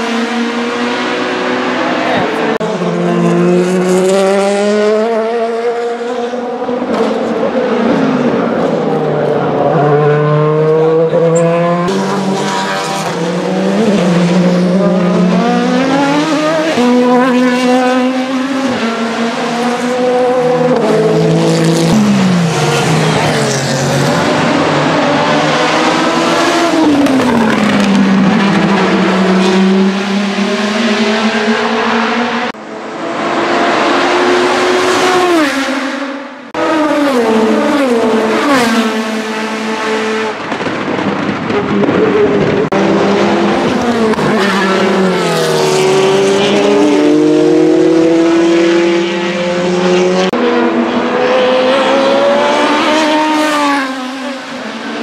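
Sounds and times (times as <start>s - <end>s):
race car engine passing at speed: 0.0s - 55.0s.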